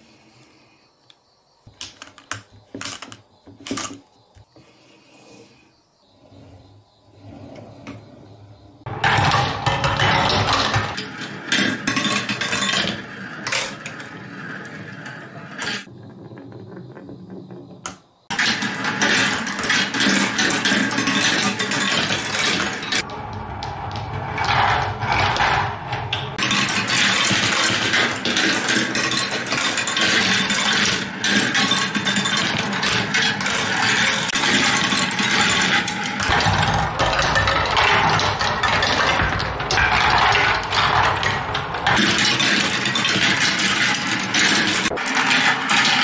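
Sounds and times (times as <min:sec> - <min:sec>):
marbles rolling on wooden tracks: 0:01.7 - 0:04.5, 0:06.2 - 0:46.0.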